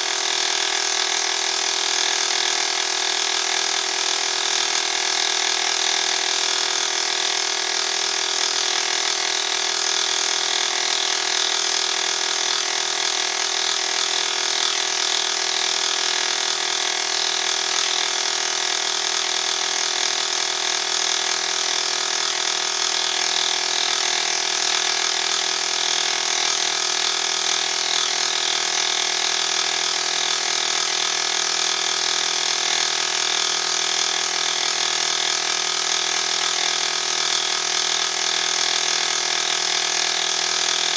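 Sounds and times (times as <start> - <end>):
milling machine cutting metal: 0.0 - 40.9.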